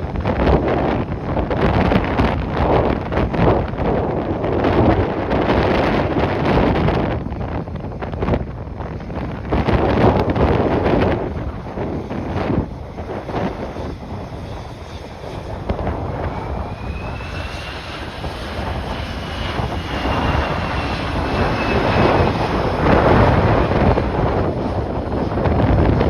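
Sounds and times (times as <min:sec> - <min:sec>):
jet airliner engine whine: 0:00.0 - 0:26.0
wind buffeting microphone: 0:00.0 - 0:26.0.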